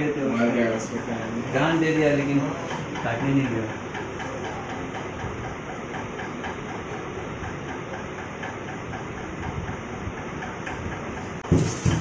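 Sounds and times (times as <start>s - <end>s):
mechanical background noise: 0.0s - 12.0s
faint regular ticking: 0.8s - 11.5s.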